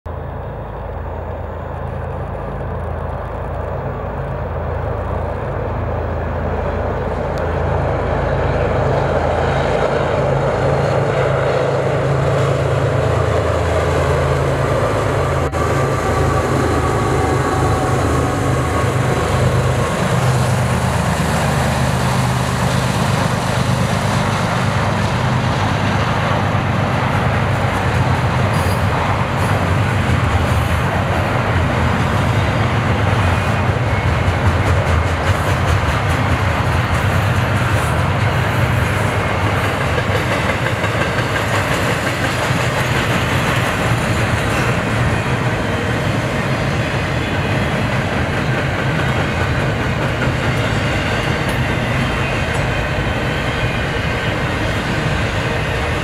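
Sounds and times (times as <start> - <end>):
diesel locomotive passing: 0.1 - 56.0
train wheels rolling on rails: 0.1 - 56.0.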